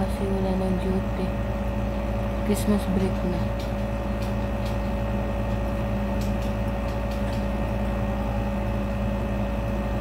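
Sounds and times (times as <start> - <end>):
motor hum: 0.0 - 10.0.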